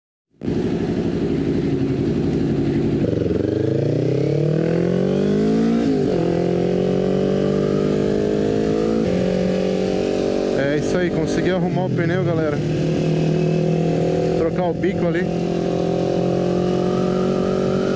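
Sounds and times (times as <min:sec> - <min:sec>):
motorcycle engine revving: 0:00.4 - 0:17.9.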